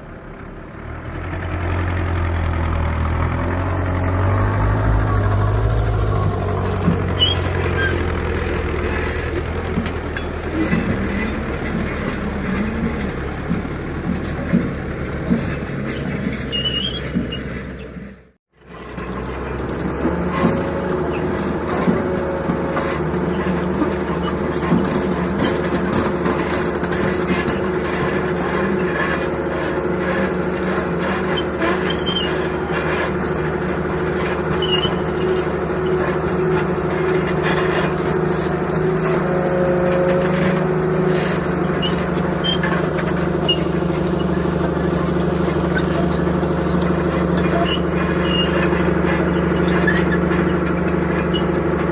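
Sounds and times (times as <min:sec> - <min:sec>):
diesel engine drone: 0:00.0 - 0:51.9.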